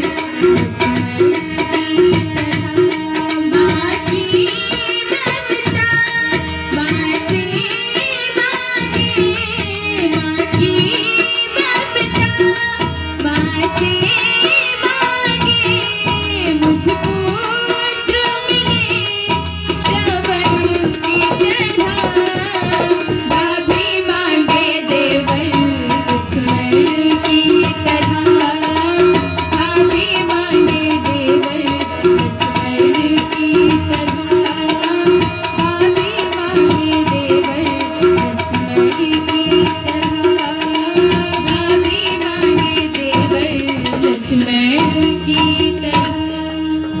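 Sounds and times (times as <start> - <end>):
hand drum: 0.0 - 47.0
sustained harmonium tones: 0.0 - 47.0
woman singing: 0.0 - 47.0.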